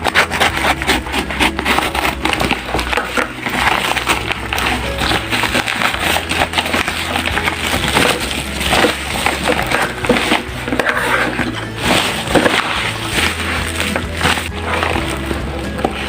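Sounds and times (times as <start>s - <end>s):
background music with bass: 0.0s - 16.0s
packaging crackling and rustling: 0.0s - 16.0s.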